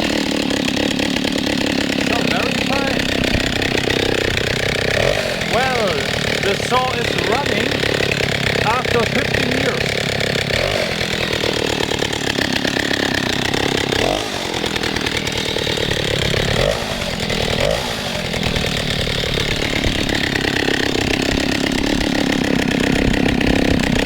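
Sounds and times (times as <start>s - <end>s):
two-stroke chainsaw engine running: 0.0s - 24.0s.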